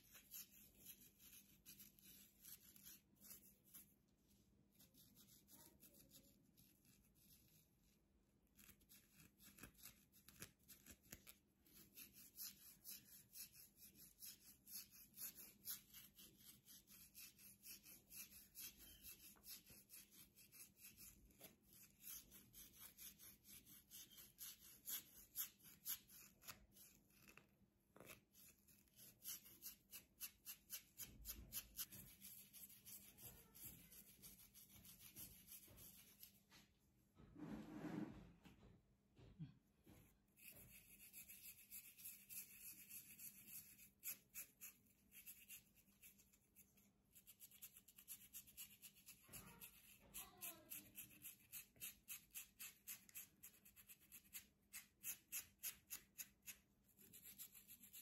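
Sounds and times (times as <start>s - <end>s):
comb scratching scalp: 0.0s - 36.7s, 40.3s - 58.0s.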